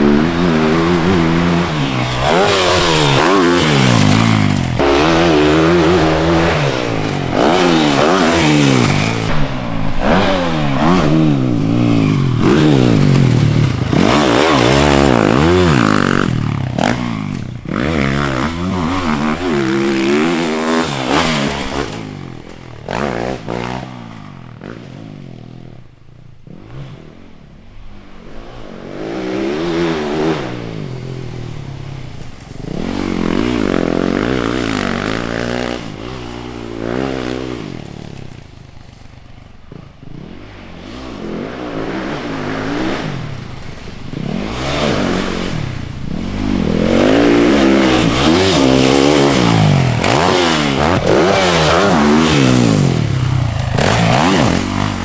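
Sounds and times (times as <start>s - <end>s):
motocross engine revving: 0.0s - 25.5s, 28.8s - 55.0s.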